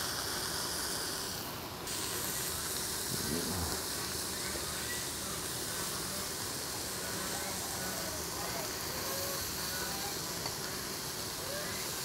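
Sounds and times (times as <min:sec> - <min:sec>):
beef sizzling in a pan: 0:00.0 - 0:12.0.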